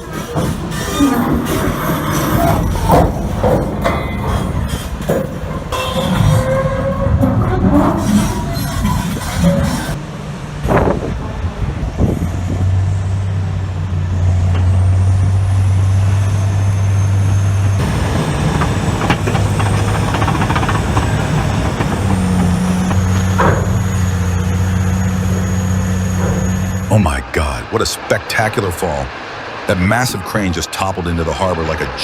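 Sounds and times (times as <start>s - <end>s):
heavy machine engine drone: 0.0s - 32.0s.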